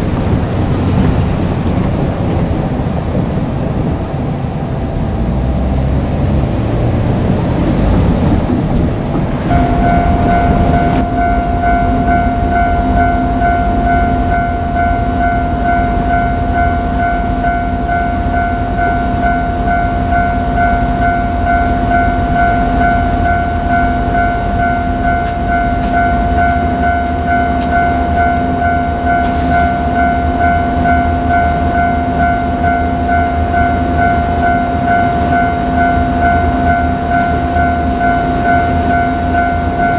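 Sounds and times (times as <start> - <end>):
level crossing alarm ringing: 0.0 - 39.9
low engine rumble: 0.0 - 39.9.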